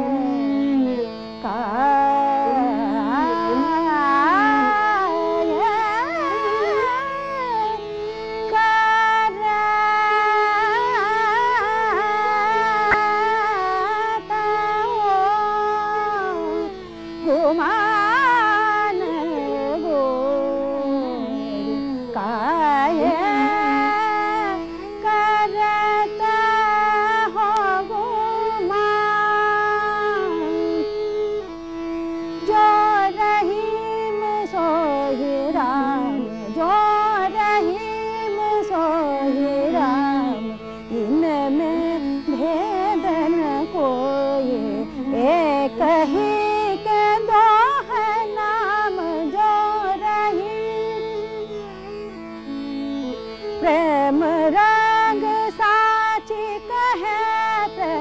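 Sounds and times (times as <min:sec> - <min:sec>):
woman singing classical vocals: 0:00.0 - 0:31.5, 0:32.3 - 0:51.9, 0:52.8 - 0:58.0
tanpura drone: 0:00.0 - 0:58.0.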